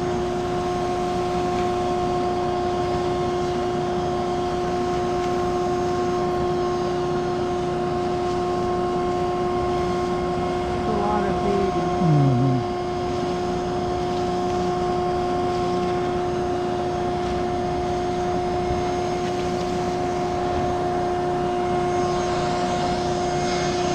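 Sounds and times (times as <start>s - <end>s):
small vacuum motor whine: 0.0s - 23.9s.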